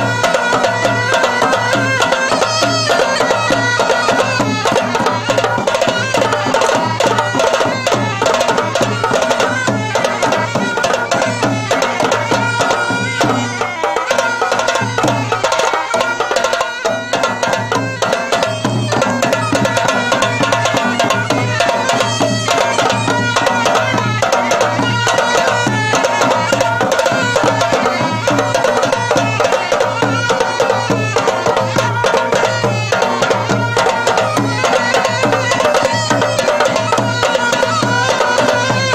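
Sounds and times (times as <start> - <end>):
held melody line: 0.0 - 38.9
repeating drum beat: 0.0 - 38.9.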